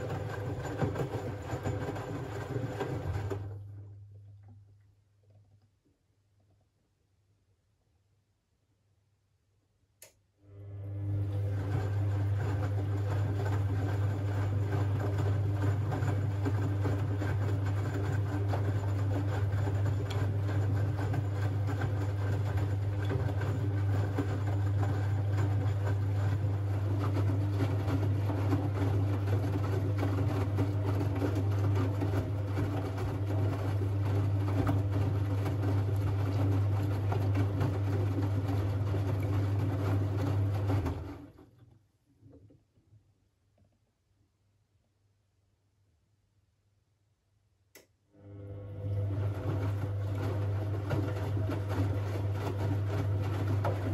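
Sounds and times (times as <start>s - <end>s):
washing machine hum: 0.0s - 6.8s, 10.3s - 42.9s, 48.1s - 53.9s.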